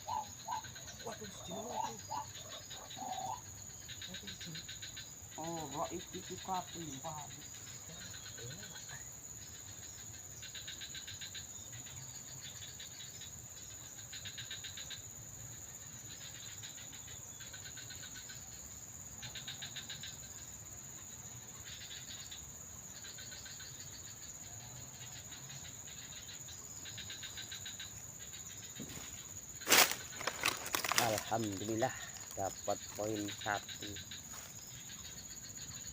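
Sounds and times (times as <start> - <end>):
insect high-pitched whine: 0.0 - 35.9
insects chirping trills: 0.0 - 35.9.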